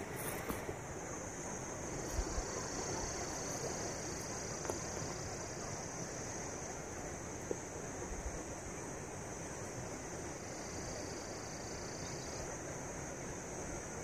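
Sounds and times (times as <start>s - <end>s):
rushing hiss: 0.0s - 14.0s.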